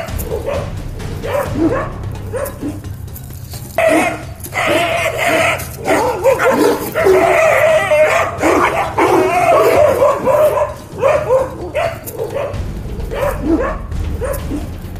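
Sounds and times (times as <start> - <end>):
dogs barking and yelping: 0.0 - 14.9.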